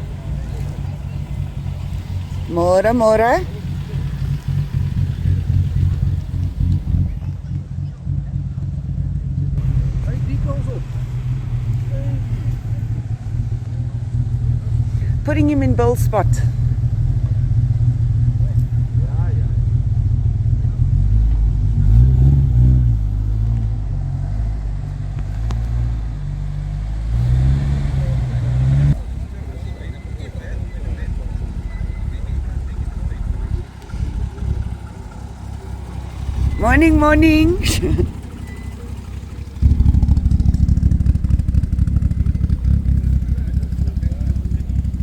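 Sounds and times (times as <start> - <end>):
car engine running at low revs: 0.0 - 45.0.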